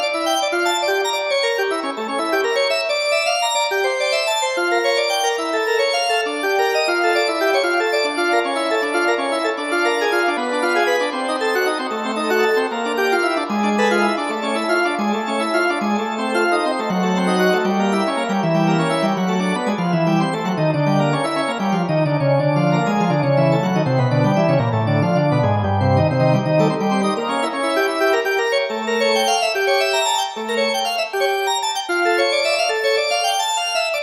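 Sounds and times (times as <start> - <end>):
instrumental keyboard music: 0.0 - 34.0.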